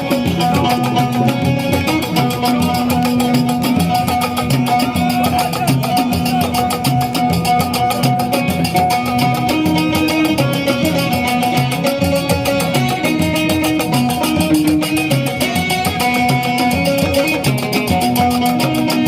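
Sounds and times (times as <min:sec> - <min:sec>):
percussion: 0:00.0 - 0:19.0
plucked strings: 0:00.0 - 0:19.0.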